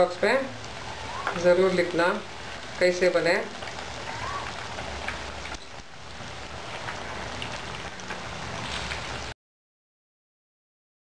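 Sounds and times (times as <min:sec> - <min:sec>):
patties deep-frying in hot oil: 0:00.0 - 0:09.4.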